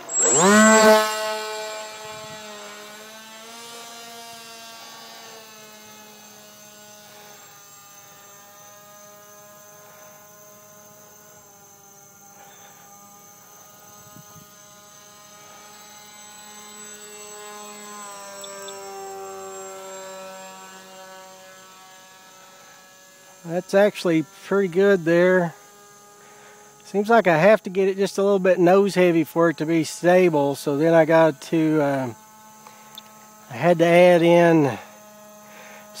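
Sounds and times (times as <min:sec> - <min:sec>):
model airplane motor buzzing: 0:00.0 - 0:36.0.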